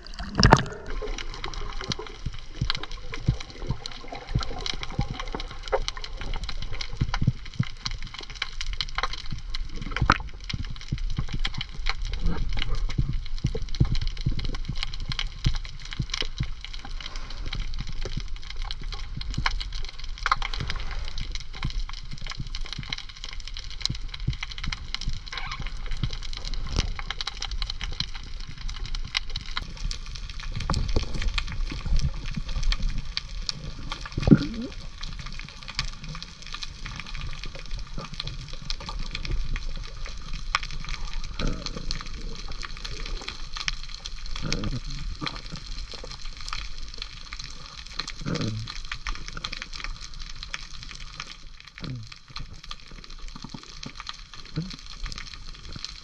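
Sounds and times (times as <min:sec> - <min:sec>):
low rumble of water: 0:00.0 - 0:56.0
crackle of sharp clicks: 0:00.3 - 0:56.0.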